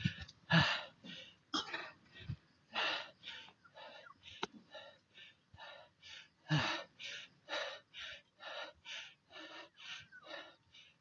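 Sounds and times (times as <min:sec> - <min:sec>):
person panting hard: 0:00.0 - 0:11.0.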